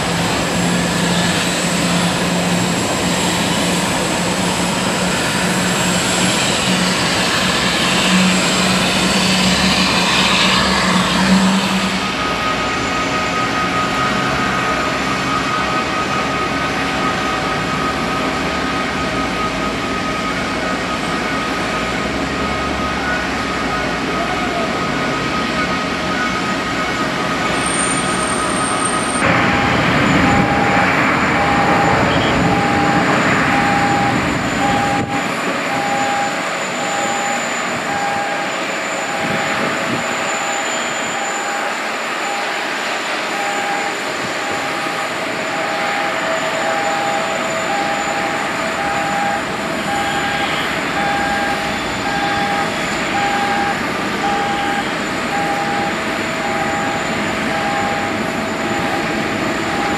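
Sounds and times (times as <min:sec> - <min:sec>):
thin high whine: 0:00.0 - 0:24.8, 0:25.6 - 0:59.9
continuous mechanical hum: 0:00.0 - 0:59.9.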